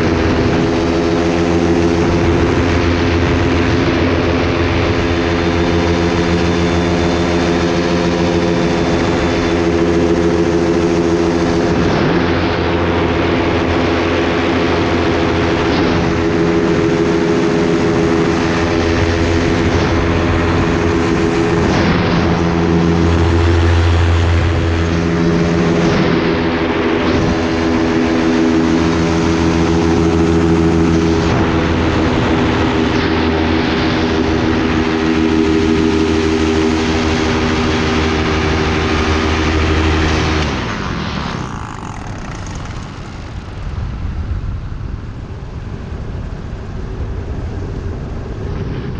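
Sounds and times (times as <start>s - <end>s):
propeller aircraft engine droning: 0.0s - 48.9s.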